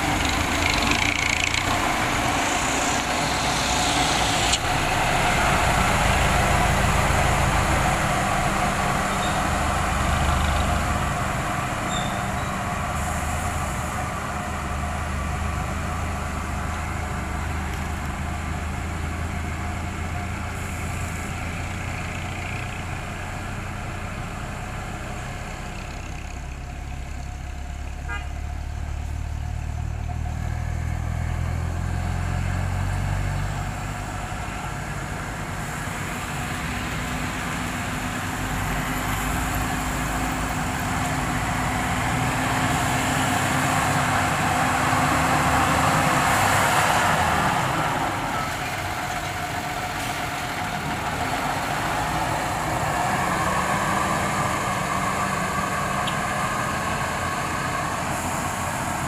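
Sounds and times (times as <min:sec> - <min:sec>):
passing road traffic: 0:00.0 - 0:59.0
road roller engine humming: 0:00.0 - 0:59.0.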